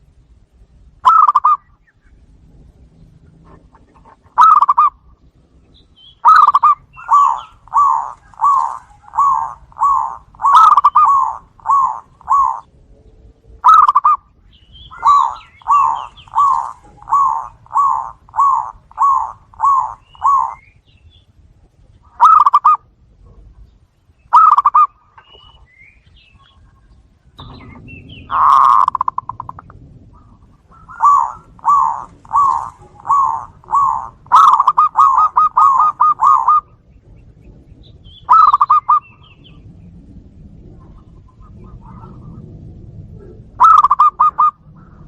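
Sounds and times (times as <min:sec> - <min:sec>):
doves cooing: 0:00.0 - 0:23.7, 0:24.3 - 0:45.0.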